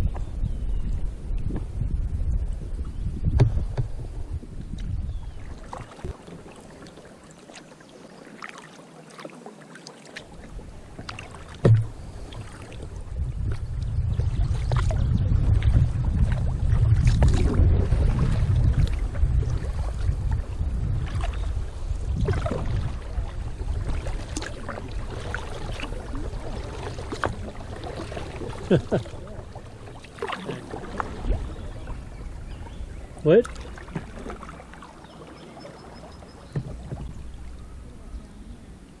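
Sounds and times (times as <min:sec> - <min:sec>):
wind on the microphone: 0:00.0 - 0:06.5, 0:10.3 - 0:39.0
water splashing from paddle: 0:03.2 - 0:38.2.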